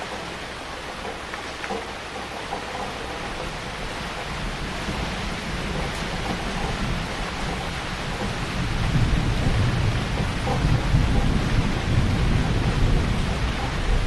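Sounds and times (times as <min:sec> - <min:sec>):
heavy rain: 0:00.0 - 0:14.0
thunder rumble: 0:02.5 - 0:14.0.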